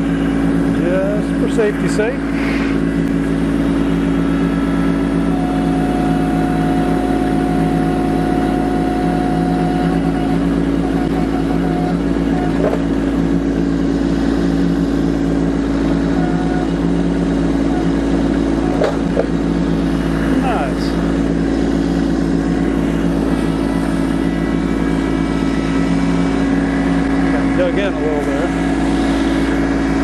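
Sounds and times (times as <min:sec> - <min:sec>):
thin high whine: 0:00.0 - 0:30.0
tractor diesel engine running: 0:00.0 - 0:30.0.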